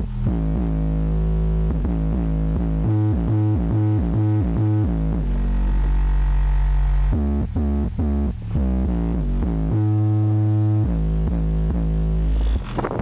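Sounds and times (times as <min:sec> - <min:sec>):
electronic music with heavy bass: 0:00.0 - 0:13.0.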